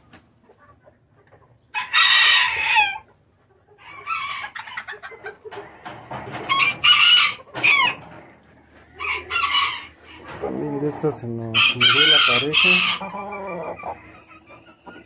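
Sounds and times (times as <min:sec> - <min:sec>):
roosters crowing: 0:01.7 - 0:03.1, 0:03.8 - 0:14.8.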